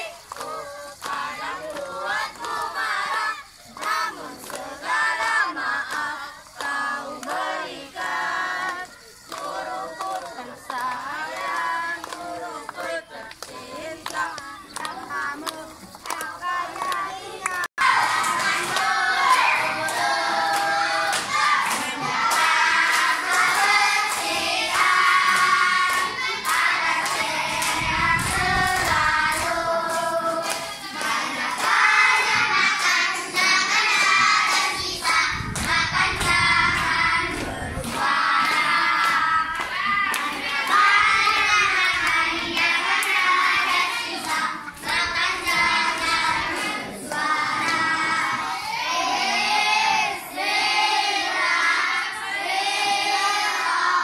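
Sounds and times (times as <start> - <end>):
children clapping: 0.0 - 54.0
children singing in unison: 0.0 - 54.0.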